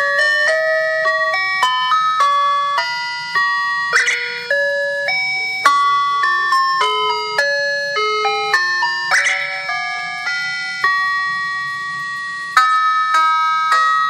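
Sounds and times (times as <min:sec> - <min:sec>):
synthesized chime-like alarm melody: 0:00.0 - 0:14.0.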